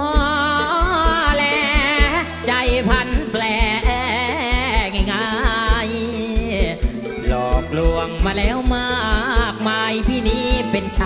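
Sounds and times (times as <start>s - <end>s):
band playing: 0.0s - 11.0s
bass drum beat: 0.0s - 11.0s
person singing wavering notes: 0.0s - 11.0s.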